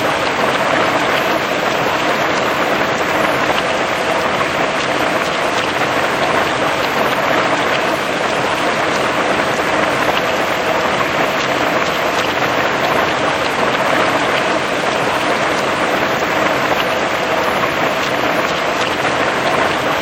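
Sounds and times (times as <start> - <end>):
heavy rain on grass and leaves: 0.0 - 20.0.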